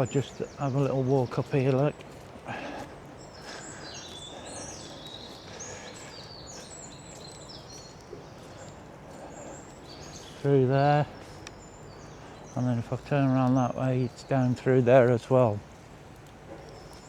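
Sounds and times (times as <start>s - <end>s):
low background noise: 0.0s - 17.0s
small birds chirping: 0.0s - 17.0s.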